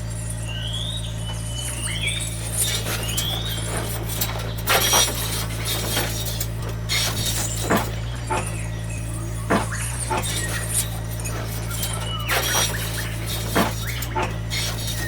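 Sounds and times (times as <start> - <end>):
short rising squeaks: 0.7 - 15.0.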